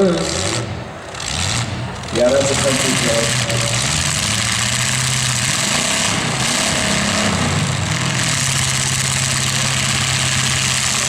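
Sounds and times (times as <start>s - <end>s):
car engines revving and running: 0.0s - 11.0s.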